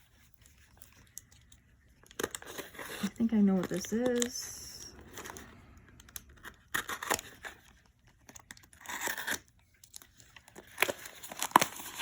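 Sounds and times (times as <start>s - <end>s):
plastic packaging torn and crinkling: 0.0s - 12.0s.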